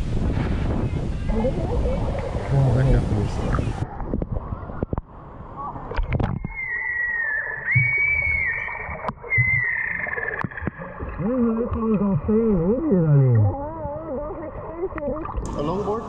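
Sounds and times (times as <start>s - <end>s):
underwater high whine: 0.0s - 16.0s.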